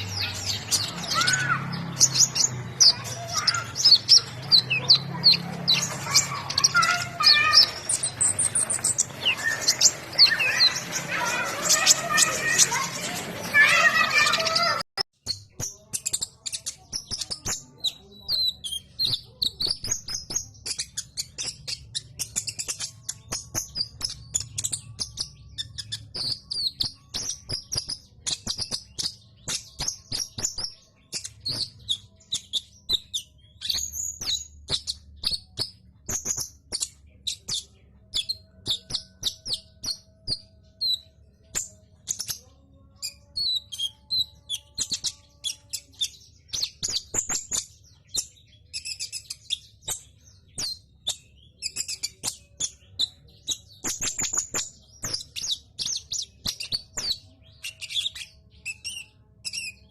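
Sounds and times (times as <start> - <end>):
sunbird chirping and twittering: 0.0 - 59.9.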